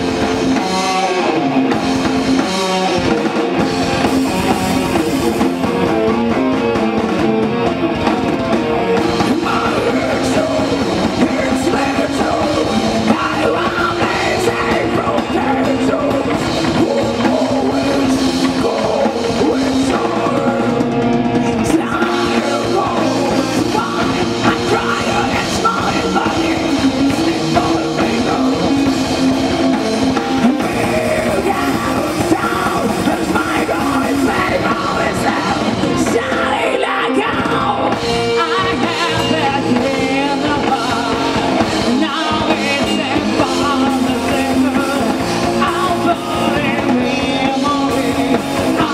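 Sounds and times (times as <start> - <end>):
drum kit: 0.0 - 48.9
live rock band playing: 0.0 - 48.9.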